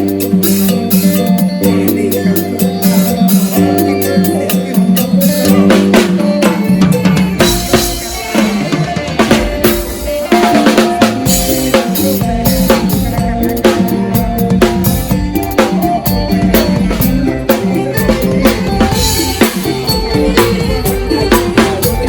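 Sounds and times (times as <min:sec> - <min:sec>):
drum kit beat: 0:00.0 - 0:22.0
keyboard notes: 0:00.0 - 0:22.0
sustained bass notes: 0:00.0 - 0:22.0.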